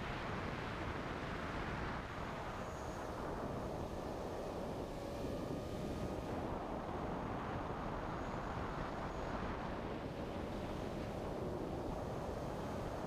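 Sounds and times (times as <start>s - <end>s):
drone motors and propellers: 0.1s - 13.0s.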